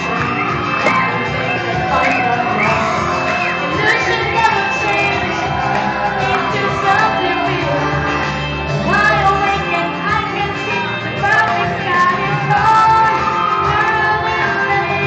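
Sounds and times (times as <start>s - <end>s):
pop music: 0.0s - 15.0s
woman singing pop song: 0.0s - 15.0s.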